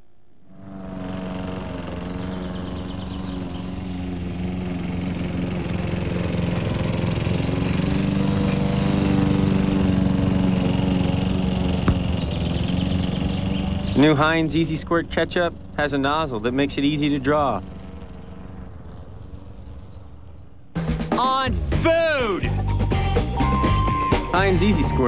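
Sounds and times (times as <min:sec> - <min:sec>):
lawn mower engine running: 0:00.4 - 0:25.0.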